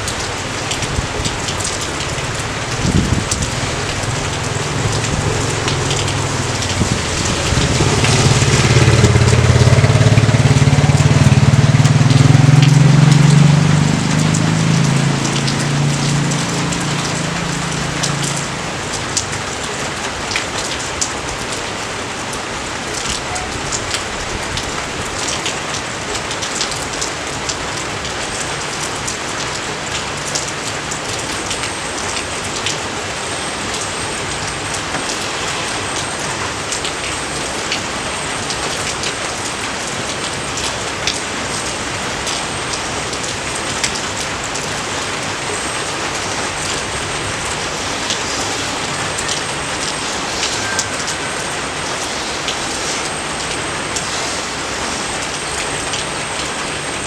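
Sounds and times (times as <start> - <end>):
rain patterning on a field: 0.0 - 57.0.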